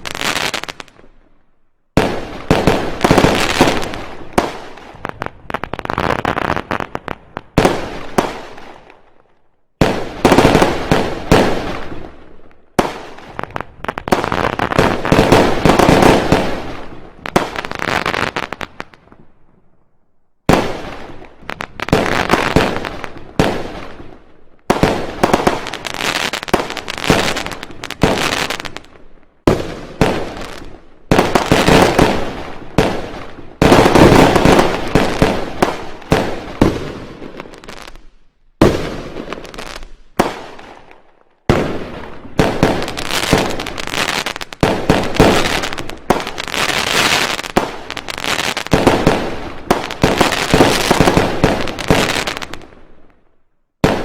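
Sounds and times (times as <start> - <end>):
fireworks banging and crackling: 0.0 - 19.3, 20.5 - 54.0.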